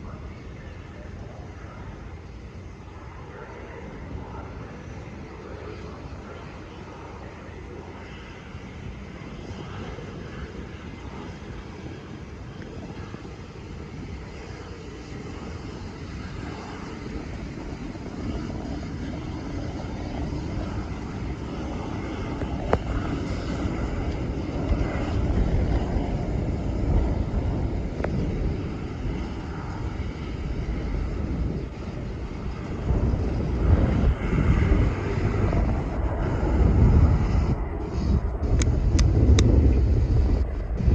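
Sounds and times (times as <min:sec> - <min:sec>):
airplane engine rumble: 0:00.0 - 0:40.9.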